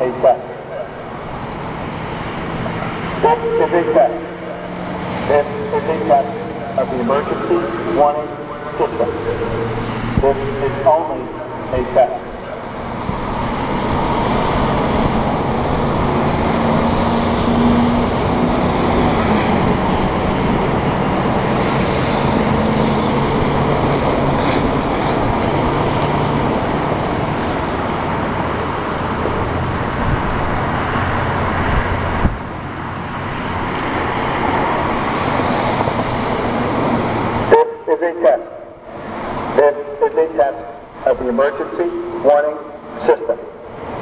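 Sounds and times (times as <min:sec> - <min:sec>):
road traffic passing: 0:00.0 - 0:44.0.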